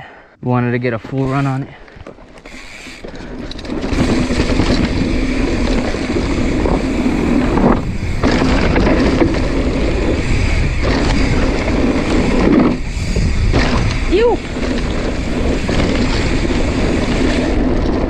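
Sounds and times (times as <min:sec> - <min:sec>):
bike tyres rolling over dirt: 0:01.2 - 0:18.0
wind rushing over microphone: 0:03.0 - 0:18.0.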